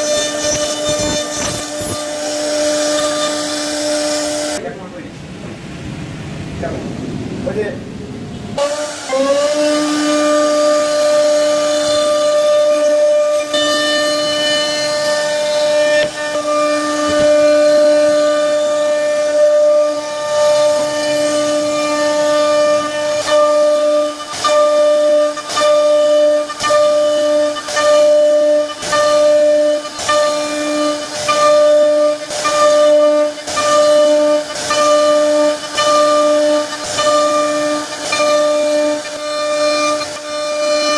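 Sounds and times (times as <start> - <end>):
router bit cutting wood: 0.0 - 4.6, 8.6 - 40.9
router spindle high whine: 0.0 - 4.6, 8.6 - 40.9.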